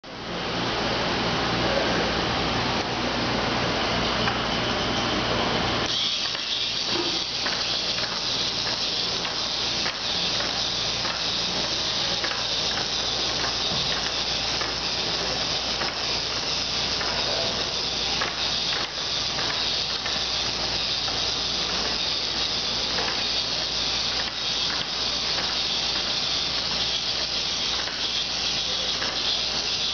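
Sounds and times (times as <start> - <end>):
toy motor whirring: 5.8 - 29.9
faint fast gear clicking: 5.9 - 29.9.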